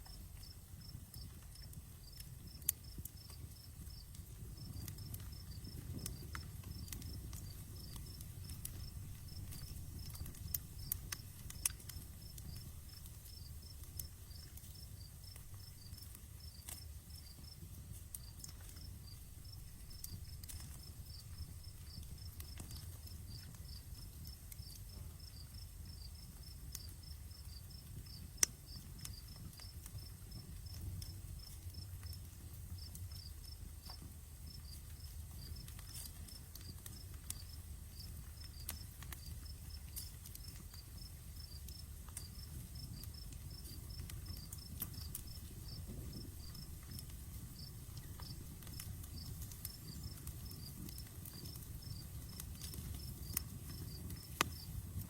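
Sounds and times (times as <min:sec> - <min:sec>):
insects chirping: 0:00.0 - 0:17.6, 0:18.2 - 0:32.2, 0:32.8 - 0:54.8
campfire crackling and popping: 0:00.0 - 0:55.0.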